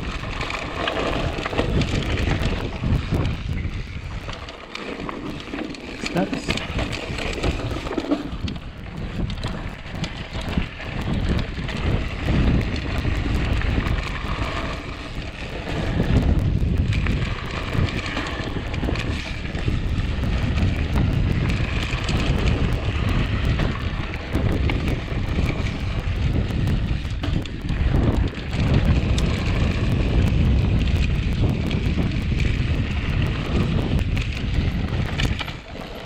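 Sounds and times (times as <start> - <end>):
wind buffeting microphone: 0.0 - 4.5, 5.1 - 36.0
bike clicking and rattling: 0.0 - 36.0
tyres rumbling on dirt: 0.0 - 36.0.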